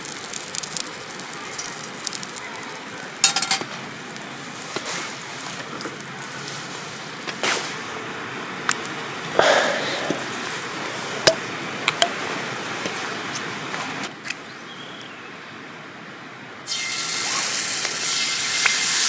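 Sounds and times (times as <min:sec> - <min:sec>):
steak sizzling over campfire: 0:00.0 - 0:15.1, 0:16.6 - 0:19.0.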